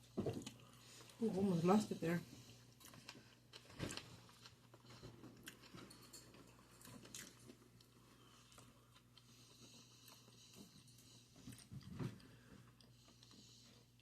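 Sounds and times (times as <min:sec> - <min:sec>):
close chewing: 0:00.0 - 0:14.0.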